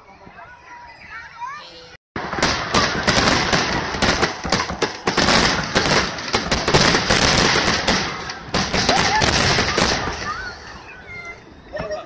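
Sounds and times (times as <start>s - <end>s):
fireworks exploding: 2.2s - 12.0s.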